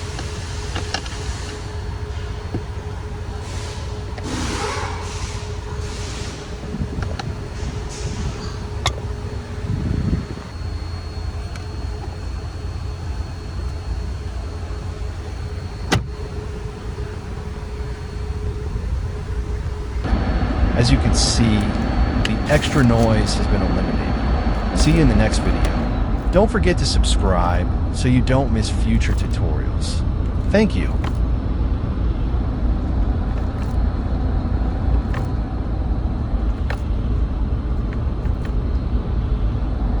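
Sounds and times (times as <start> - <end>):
car ventilation humming: 0.0 - 40.0
faint whine: 0.0 - 40.0.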